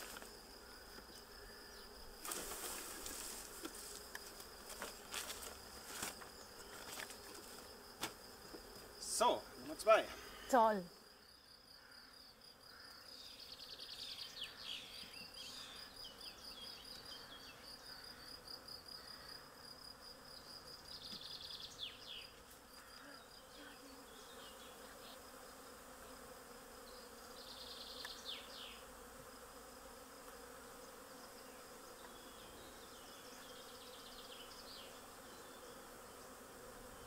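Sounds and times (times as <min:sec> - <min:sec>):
bee swarm buzzing: 0:00.0 - 0:11.3, 0:12.4 - 0:37.0.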